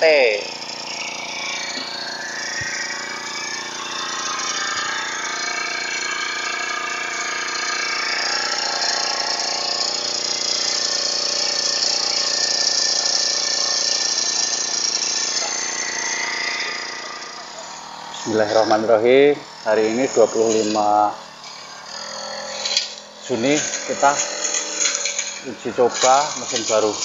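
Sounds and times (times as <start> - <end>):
small petrol engine running: 0.0 - 27.0.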